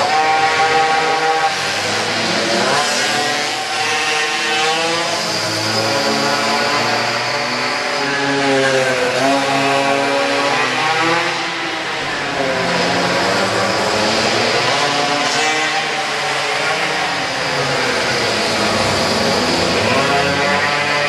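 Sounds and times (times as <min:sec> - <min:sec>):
small two-stroke engines buzzing: 0:00.0 - 0:21.0.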